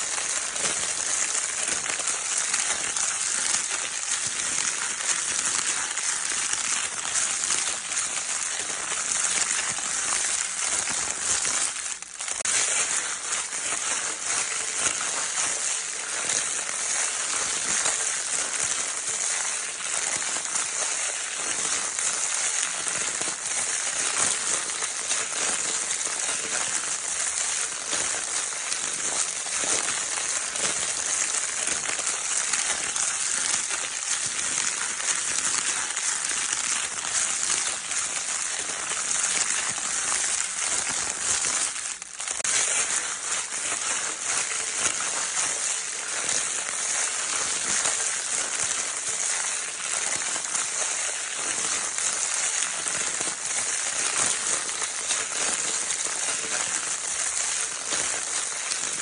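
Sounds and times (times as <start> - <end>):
crinkle paper scrunched: 0.0 - 59.0.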